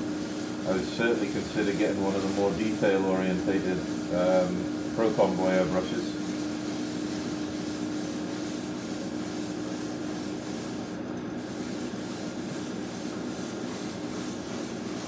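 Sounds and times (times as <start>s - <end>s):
airbrush spraying hiss: 0.0s - 15.0s
steady hum: 0.0s - 15.0s.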